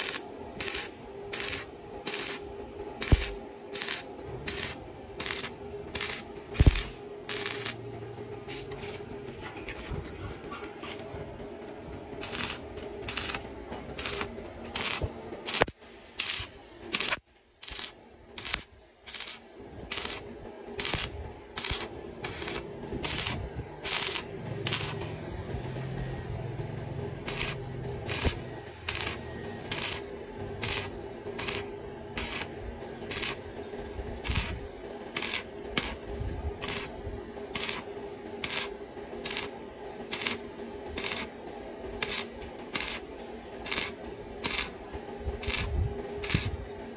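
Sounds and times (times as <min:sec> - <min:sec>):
steady hum: 0:00.0 - 0:46.9.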